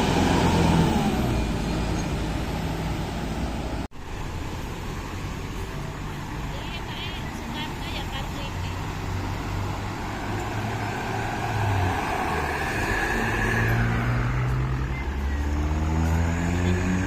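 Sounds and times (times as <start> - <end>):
bus diesel engine pulling away: 0.0 - 17.0.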